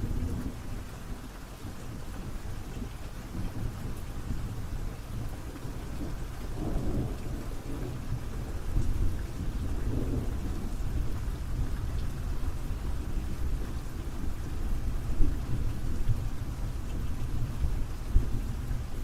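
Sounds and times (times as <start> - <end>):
low rumble of thunder: 0.0 - 19.0
steady rain falling: 0.0 - 19.0.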